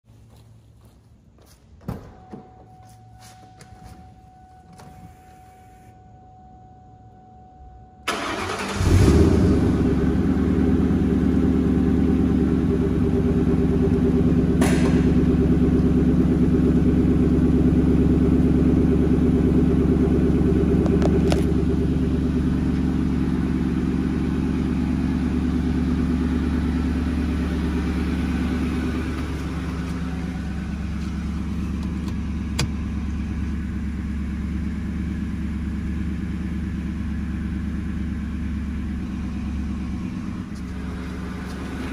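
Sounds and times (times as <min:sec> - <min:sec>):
car engine starting and idling: 0:01.9 - 0:41.9.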